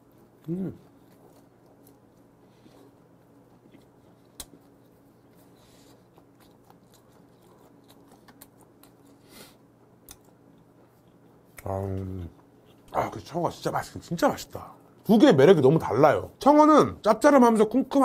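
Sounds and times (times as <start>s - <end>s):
faint chewing: 0.0s - 15.9s
low room hum: 0.0s - 18.0s.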